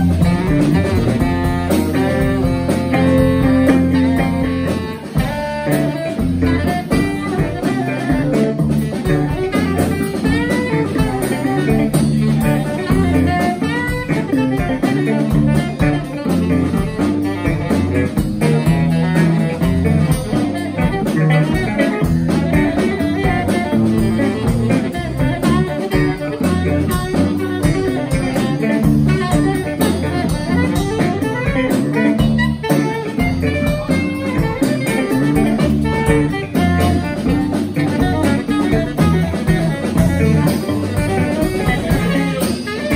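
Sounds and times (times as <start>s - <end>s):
drum kit: 0.0s - 42.9s
electric bass line: 0.0s - 42.9s
saxophone: 0.0s - 42.9s.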